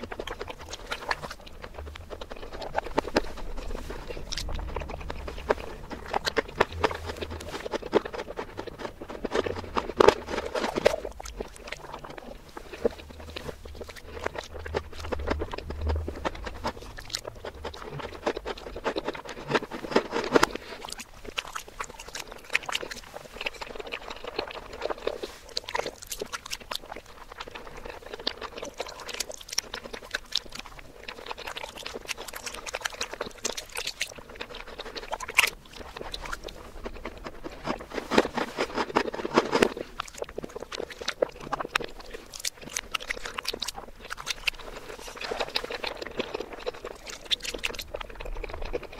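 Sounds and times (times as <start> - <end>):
reversed wet chewing: 0.0 - 48.9.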